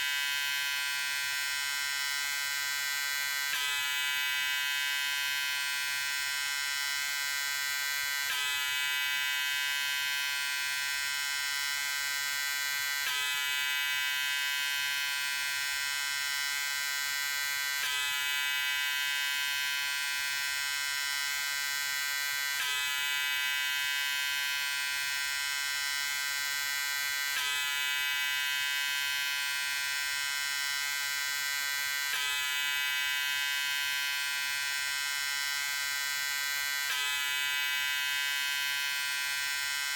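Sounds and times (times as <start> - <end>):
electric razor buzzing: 0.0 - 39.9.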